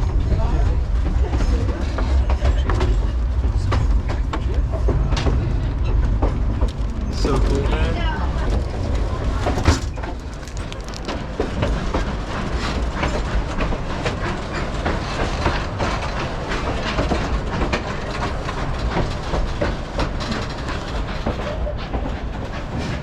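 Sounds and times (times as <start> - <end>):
railroad cars rumbling on track: 0.0 - 23.0
wheels clicking and clattering: 0.1 - 23.0.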